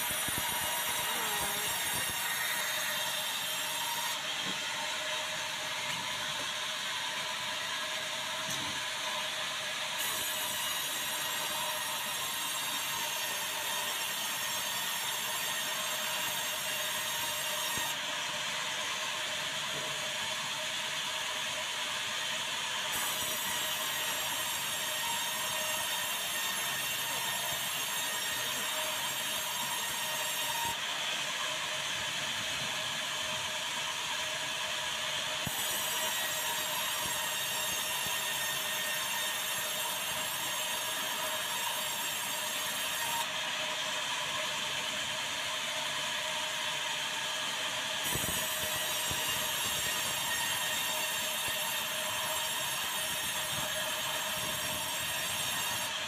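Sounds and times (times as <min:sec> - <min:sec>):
band sawmill cutting timber: 0:00.0 - 0:18.0, 0:22.9 - 0:31.1, 0:32.7 - 0:44.3, 0:46.9 - 0:56.0.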